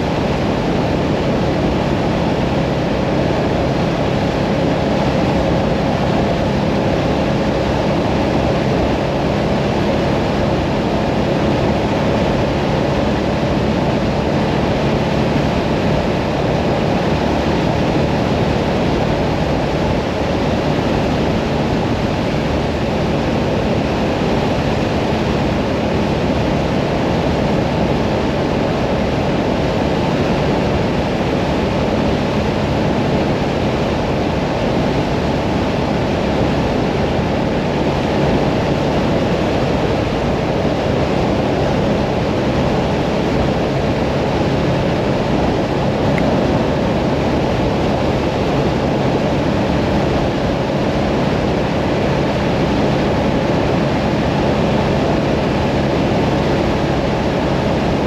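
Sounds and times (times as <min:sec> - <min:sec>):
motorcycle engine drone: 0:00.0 - 0:58.0
wind rushing on microphone: 0:00.0 - 0:58.0.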